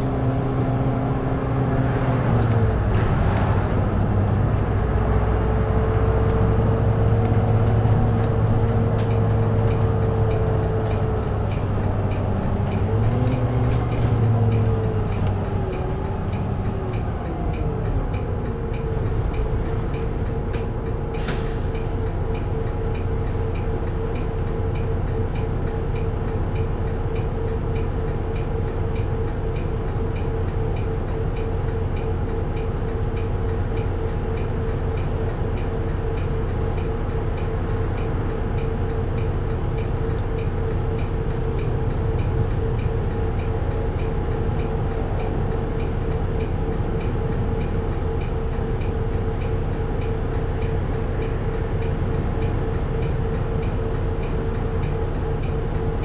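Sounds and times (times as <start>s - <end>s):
bus diesel engine droning: 0.0s - 56.0s.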